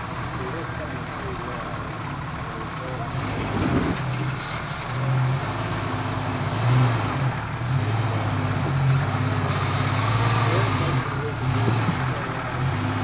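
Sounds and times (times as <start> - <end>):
engine revving under load: 1.2 - 13.0.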